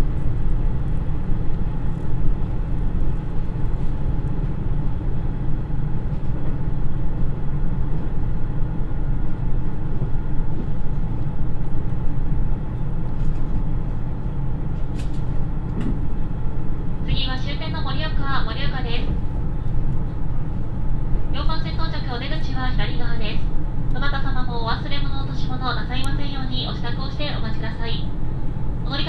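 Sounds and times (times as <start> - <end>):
wheels rumbling on rail: 0.0 - 29.0.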